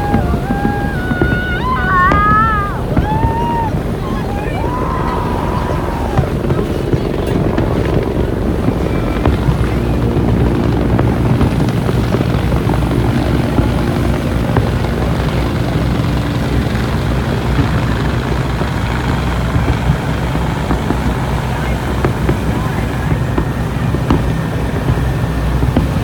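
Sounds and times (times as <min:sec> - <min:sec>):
large engine running: 0:00.0 - 0:26.0.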